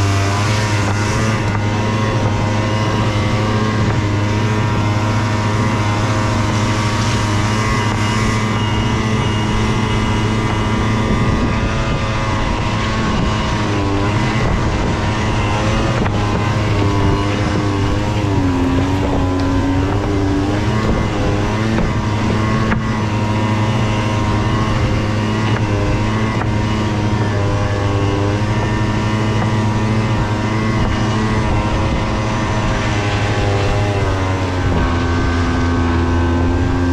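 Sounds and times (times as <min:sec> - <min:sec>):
engine running drone: 0:00.0 - 0:36.9.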